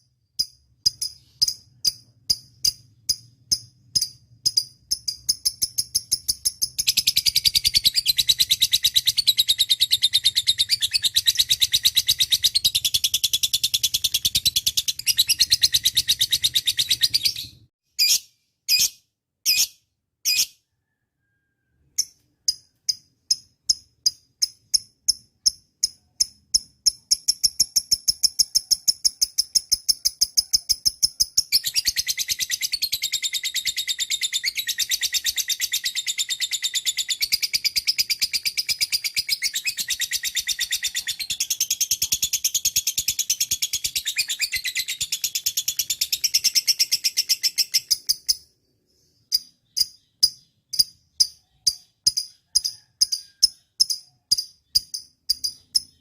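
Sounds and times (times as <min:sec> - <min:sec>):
lovebird chirping: 0:00.0 - 0:56.0.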